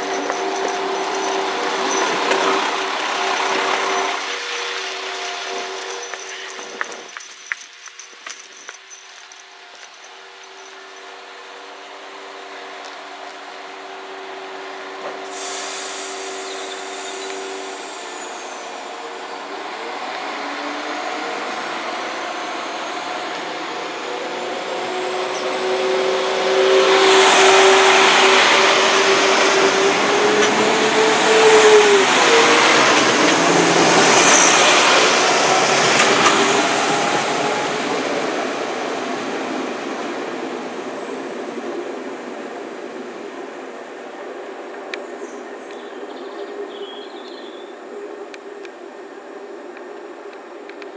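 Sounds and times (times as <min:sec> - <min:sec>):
diesel train engine: 0:00.0 - 0:50.9.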